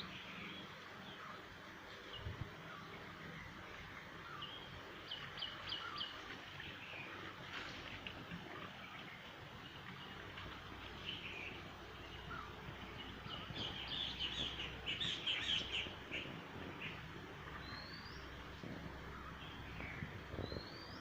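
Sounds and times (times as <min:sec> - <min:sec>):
small birds chirping: 0:00.0 - 0:07.7, 0:08.4 - 0:21.0
low steady background rumble: 0:00.0 - 0:21.0.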